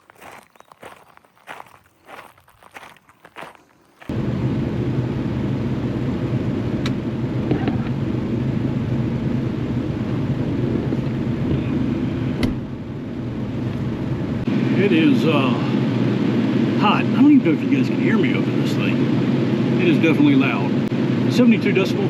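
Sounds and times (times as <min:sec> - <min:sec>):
generator humming: 0:04.0 - 0:22.0.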